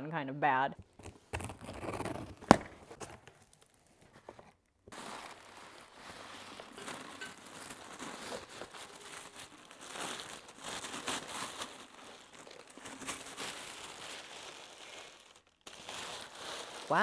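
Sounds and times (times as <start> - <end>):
plastic packaging crinkling: 0.9 - 17.0.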